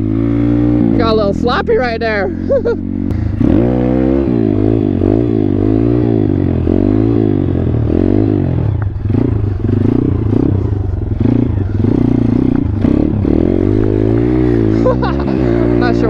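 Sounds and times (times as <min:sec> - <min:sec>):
motorbike engine revving: 0:00.0 - 0:16.0.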